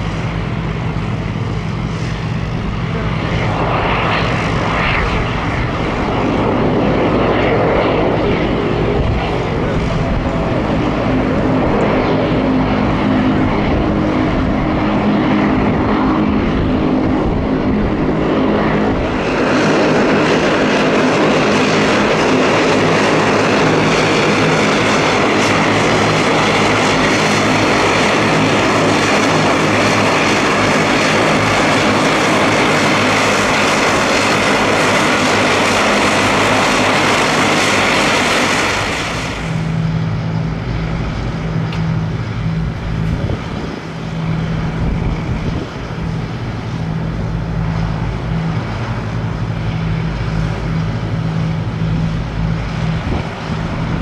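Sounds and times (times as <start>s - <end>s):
turboprop plane droning: 0.0s - 54.0s.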